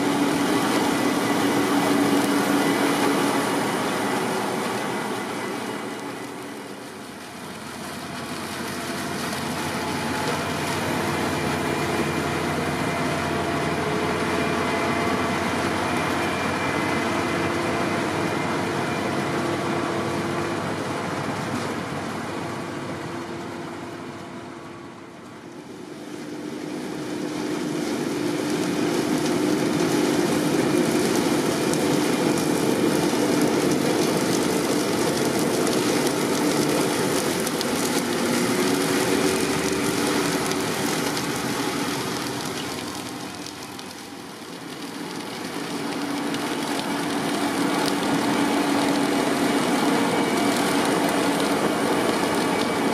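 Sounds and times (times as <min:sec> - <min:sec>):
harvester machinery working: 0:00.0 - 0:52.9
tractor diesel engines under load: 0:00.0 - 0:52.9.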